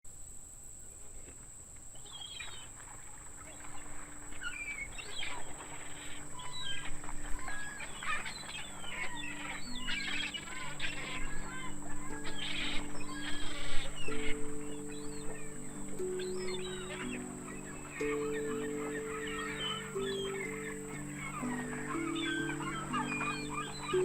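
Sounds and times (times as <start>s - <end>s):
gulls calling: 1.9s - 24.0s.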